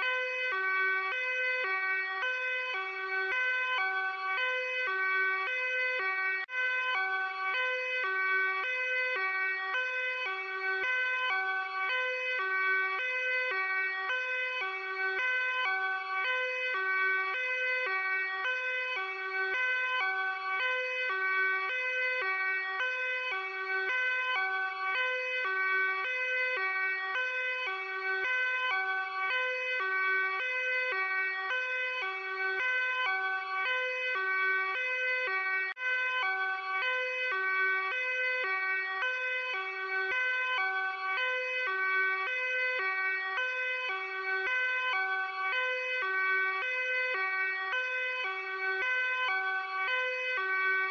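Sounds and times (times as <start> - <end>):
police two-tone siren: 0.0 - 50.9.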